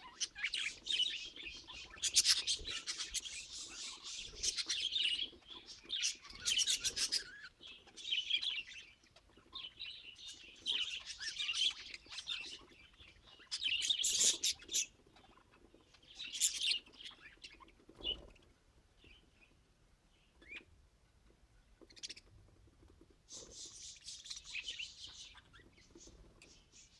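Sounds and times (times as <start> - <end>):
budgerigars chirping: 0.0 - 19.2, 21.8 - 22.3, 23.3 - 26.9.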